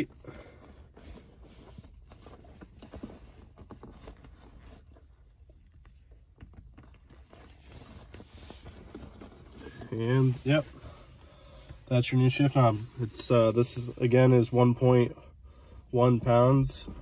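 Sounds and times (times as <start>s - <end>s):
rubbing of rubber shift boot: 0.0s - 14.4s.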